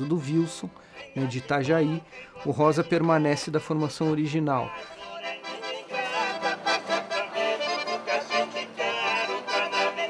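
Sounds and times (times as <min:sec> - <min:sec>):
accordion chords: 0:00.0 - 0:10.0.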